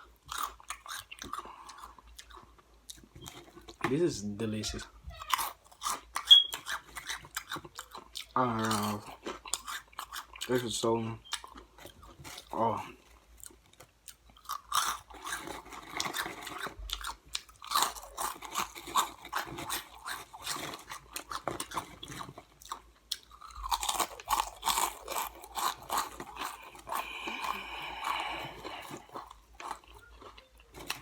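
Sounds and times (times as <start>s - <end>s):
person chewing crunchy snacks: 0.0s - 31.0s.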